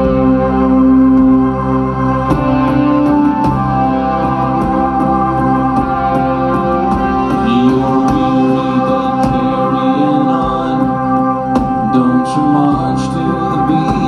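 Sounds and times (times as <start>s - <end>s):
drums: 0.0s - 14.0s
live band playing: 0.0s - 14.0s
sustained organ chord: 0.0s - 14.0s.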